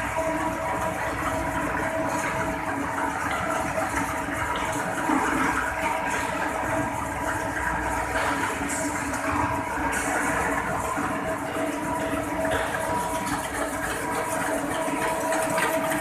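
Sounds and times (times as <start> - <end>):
machine whirring: 0.0 - 16.0.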